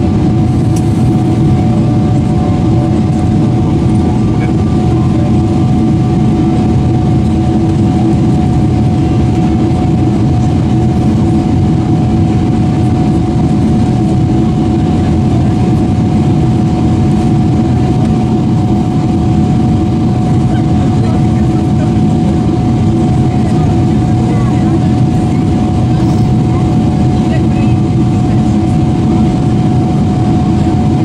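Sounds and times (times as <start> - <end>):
airplane cabin drone: 0.0 - 31.0
steady high whine: 0.0 - 31.0.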